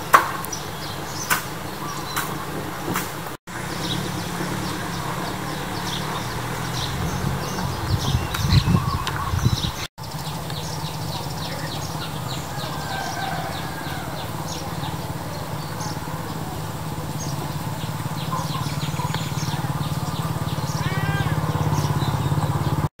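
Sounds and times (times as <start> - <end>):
harsh bending bird call: 0.0 - 22.9
high bird chirps: 3.6 - 22.9.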